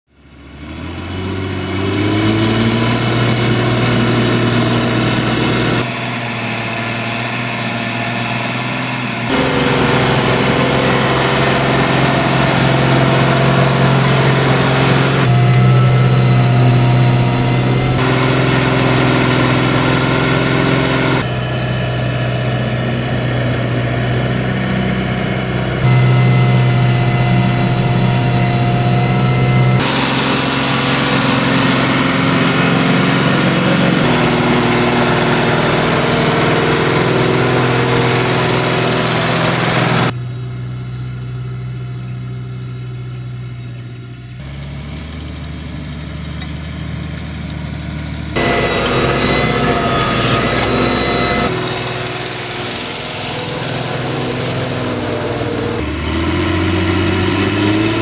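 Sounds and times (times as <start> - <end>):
tractor engines under load: 0.1 - 58.0.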